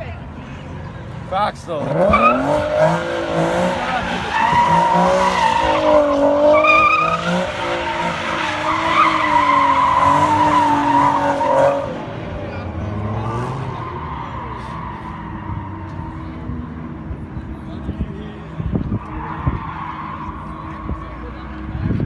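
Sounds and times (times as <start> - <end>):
car engine at high revs: 1.6 - 22.0
car tires squealing: 1.8 - 16.8, 18.4 - 22.0.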